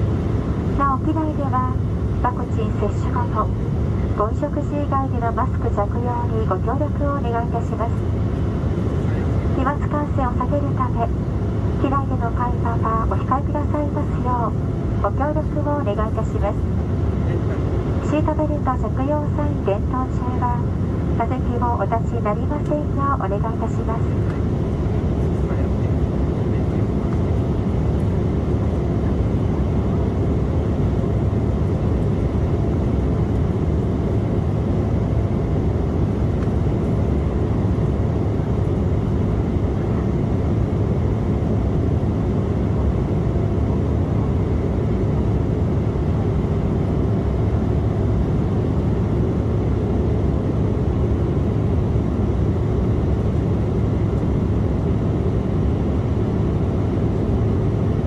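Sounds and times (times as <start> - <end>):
aircraft cabin rumble: 0.0 - 58.0
faint steady hum: 0.0 - 58.0.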